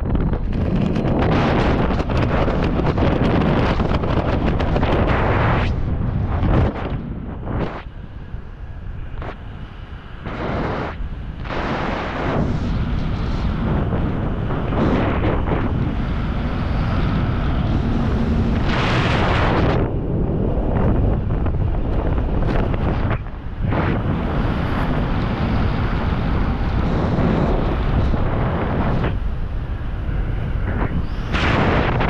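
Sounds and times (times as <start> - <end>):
wind rushing over microphone: 0.0 - 32.0.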